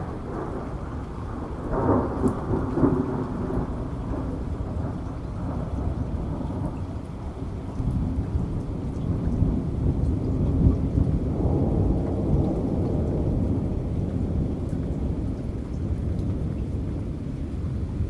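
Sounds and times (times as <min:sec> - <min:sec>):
rolling thunder: 0:00.0 - 0:18.0
steady rain: 0:00.0 - 0:18.0
raindrop ticks: 0:00.3 - 0:18.0.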